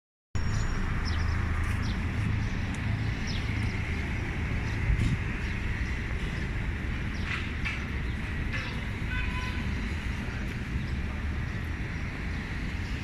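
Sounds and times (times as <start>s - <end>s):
low traffic rumble: 0.4s - 13.0s.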